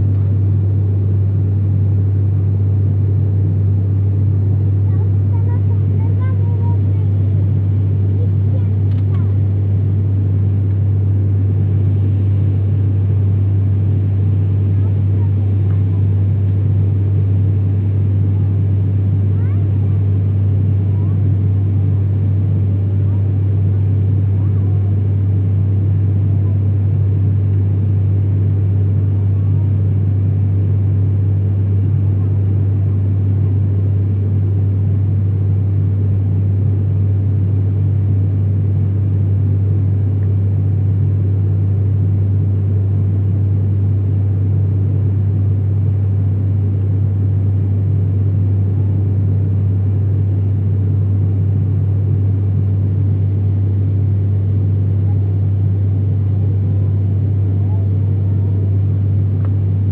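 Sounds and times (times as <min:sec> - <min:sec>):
propeller engine droning: 0:00.0 - 0:59.9.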